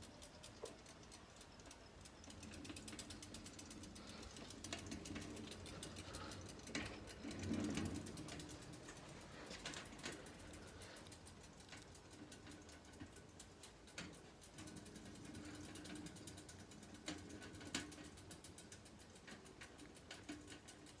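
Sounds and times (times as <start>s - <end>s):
freewheel ratcheting clicks: 0.0s - 21.0s.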